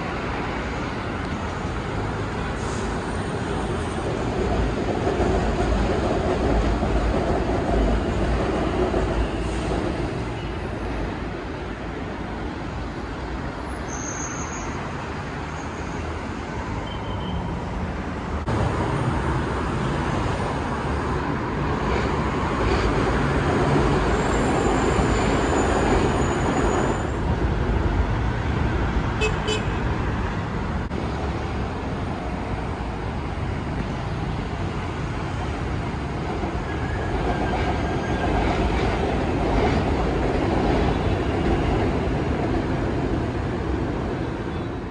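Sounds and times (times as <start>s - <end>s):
passing cars and buses: 0.0s - 44.9s.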